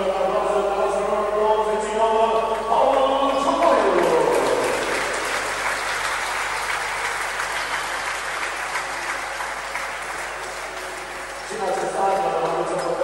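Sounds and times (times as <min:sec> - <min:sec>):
crowd applauding: 0:02.4 - 0:13.0.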